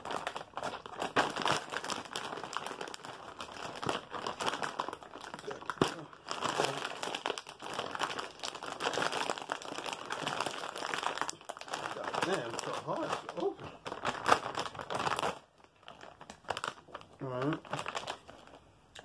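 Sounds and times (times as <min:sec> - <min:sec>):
plastic snack bag crinkling: 0:00.0 - 0:18.7.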